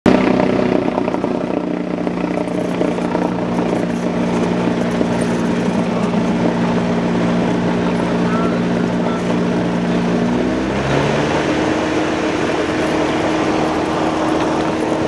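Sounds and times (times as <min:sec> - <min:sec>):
propeller plane engine in cabin: 0:00.0 - 0:15.0.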